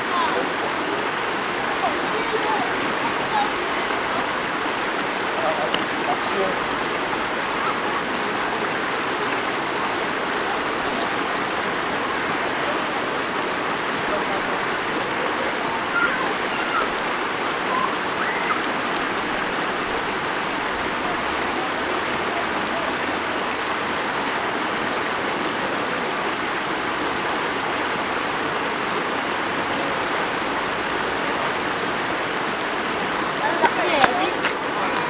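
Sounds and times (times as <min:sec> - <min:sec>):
stream water rushing over stones: 0:00.0 - 0:35.0.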